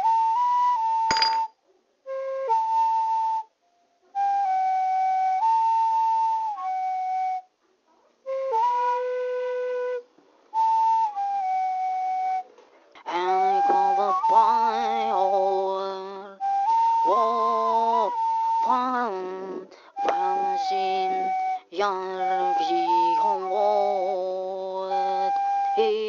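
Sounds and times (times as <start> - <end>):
flute playing slow notes: 0.0 - 1.0, 2.1 - 7.5, 8.3 - 12.5, 13.2 - 19.0, 20.0 - 26.0.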